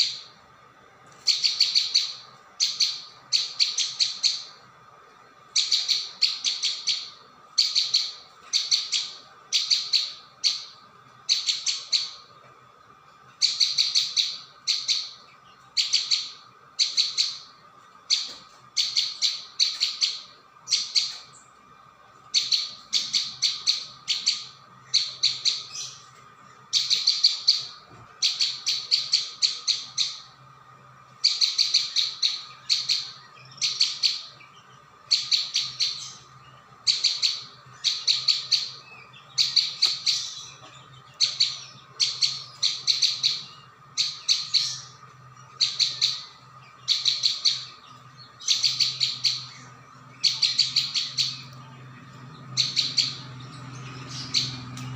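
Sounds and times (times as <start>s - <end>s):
faint steady hum: 0.0s - 54.9s
bird calling rapid high chirps: 1.2s - 12.4s, 13.3s - 54.9s.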